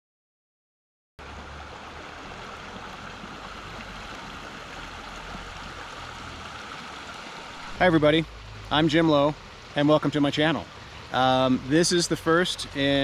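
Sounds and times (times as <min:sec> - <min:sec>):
creek flowing: 0:01.2 - 0:13.0.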